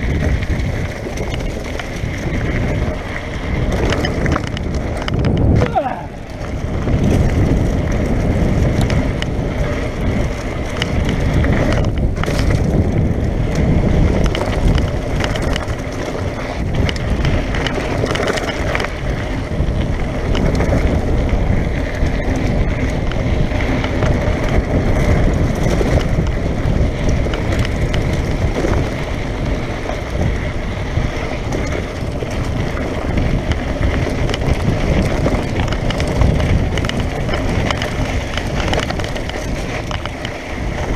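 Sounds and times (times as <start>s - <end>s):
bike knocking and rattling: 0.0s - 40.9s
tyres crunching on gravel: 0.0s - 40.9s.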